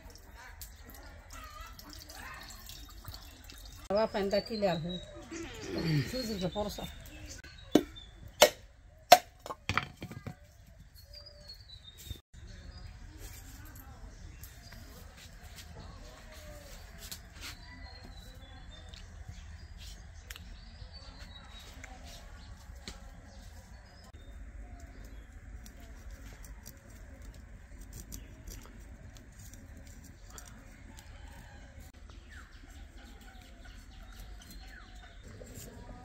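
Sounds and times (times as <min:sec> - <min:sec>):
birds chirping: 0:00.0 - 0:08.8, 0:09.8 - 0:36.0.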